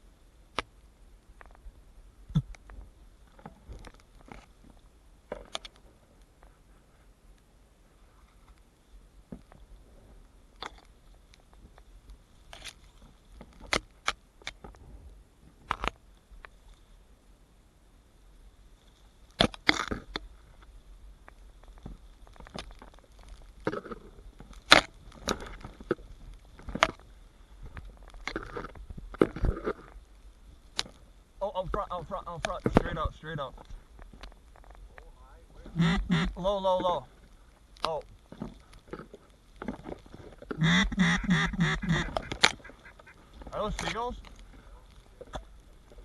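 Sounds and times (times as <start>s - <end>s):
faint high-pitched whine: 0.0s - 46.0s.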